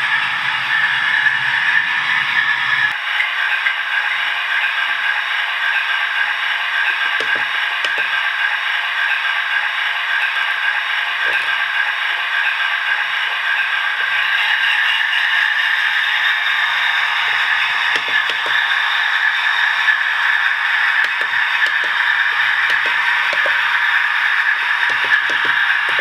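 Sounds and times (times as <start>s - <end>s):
model train whirring and rattling: 0.0s - 26.0s.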